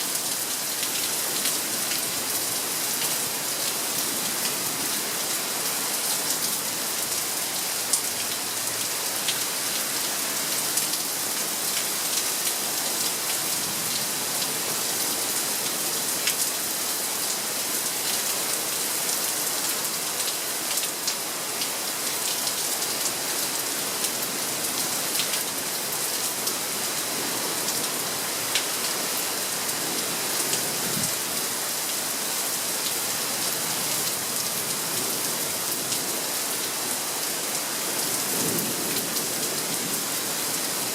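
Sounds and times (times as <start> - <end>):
steady heavy rain: 0.0 - 40.9.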